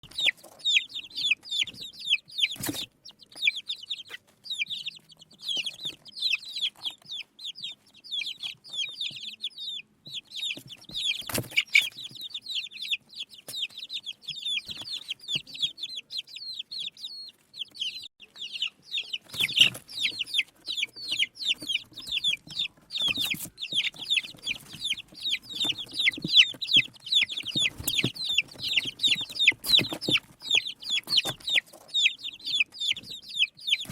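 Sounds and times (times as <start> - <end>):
baby chicks peeping: 0.0 - 33.9.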